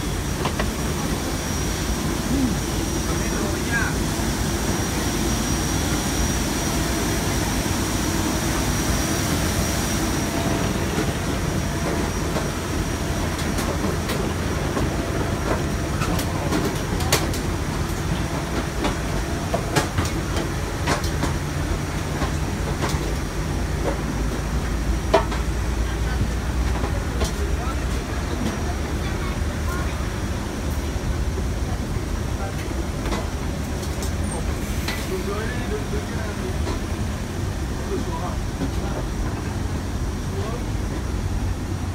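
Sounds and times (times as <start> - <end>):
low rumble of airport apron: 0.0 - 41.9.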